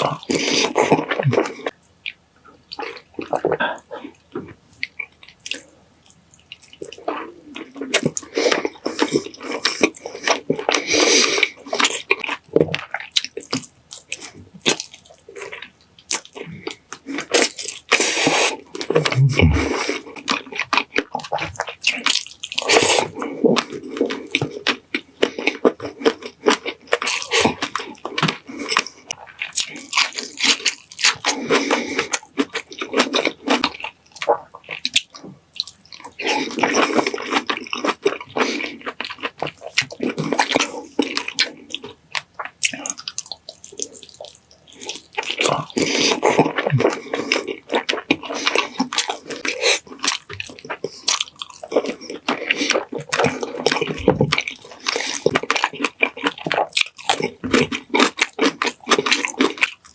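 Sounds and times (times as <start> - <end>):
wet chewing and smacking: 0.0 - 59.9.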